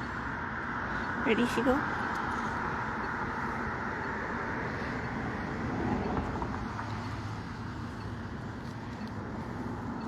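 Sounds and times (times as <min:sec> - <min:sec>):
road traffic rumble and hiss: 0:00.0 - 0:10.0.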